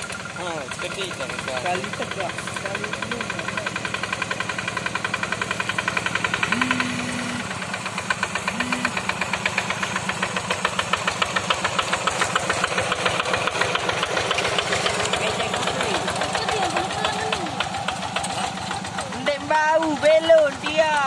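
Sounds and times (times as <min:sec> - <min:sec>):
diesel engine chugging: 0:00.0 - 0:21.0.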